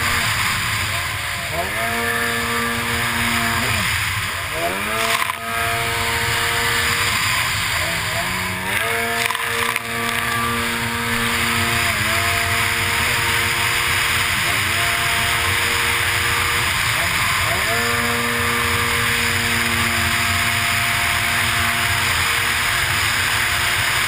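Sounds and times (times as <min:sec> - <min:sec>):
jetski engine at high revs: 0:00.0 - 0:24.0
water rushing and spray: 0:00.0 - 0:24.0.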